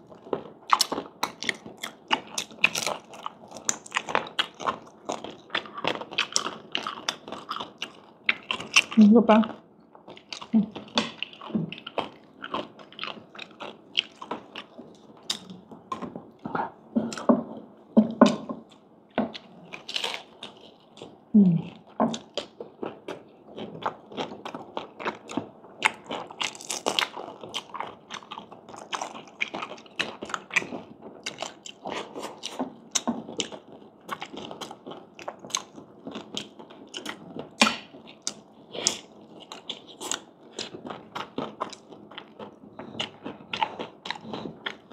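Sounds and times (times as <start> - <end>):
person chewing crispy food: 0.0 - 44.9.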